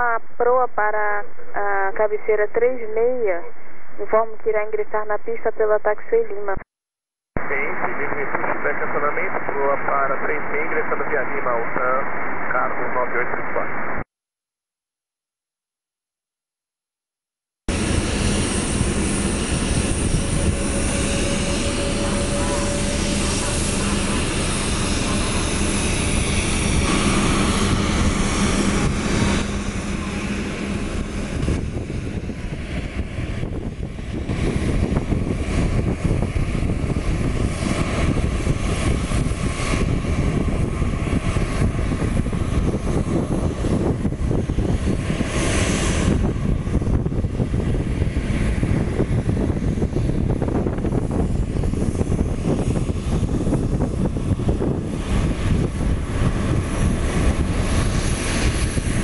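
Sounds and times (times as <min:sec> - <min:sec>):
jet engine rumble and hiss: 0:07.4 - 0:14.0, 0:17.7 - 0:59.0.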